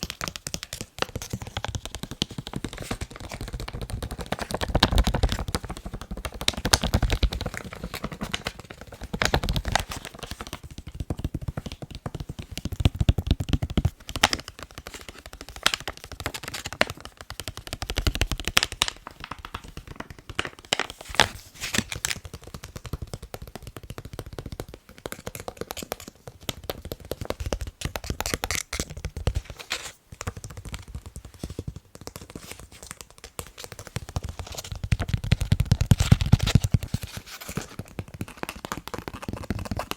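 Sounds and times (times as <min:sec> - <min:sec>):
fingers tapping on face mask: 0:00.0 - 0:39.9.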